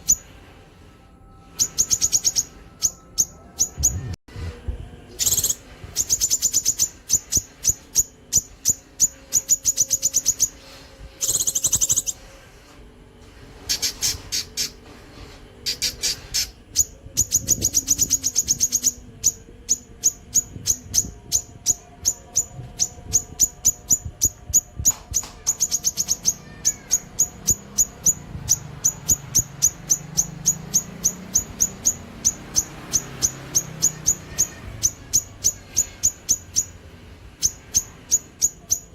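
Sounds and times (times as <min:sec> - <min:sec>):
bird singing sharp high notes: 0:01.4 - 0:04.2, 0:05.1 - 0:12.3, 0:15.6 - 0:38.9.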